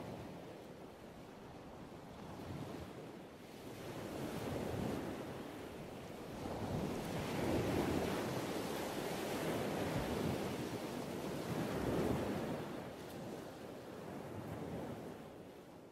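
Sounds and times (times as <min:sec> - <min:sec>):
wind: 0:00.0 - 0:15.9.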